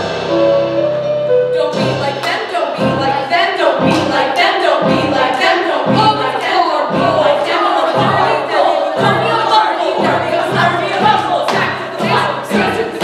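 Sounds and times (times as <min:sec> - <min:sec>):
band accompaniment: 0:00.0 - 0:13.0
ensemble singing show tune: 0:00.0 - 0:13.0.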